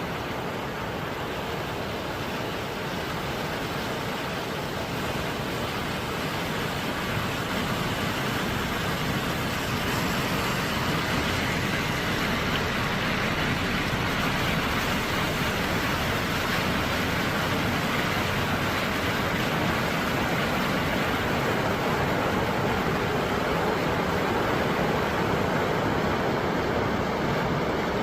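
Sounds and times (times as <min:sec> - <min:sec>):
flood water rushing: 0:00.0 - 0:28.0.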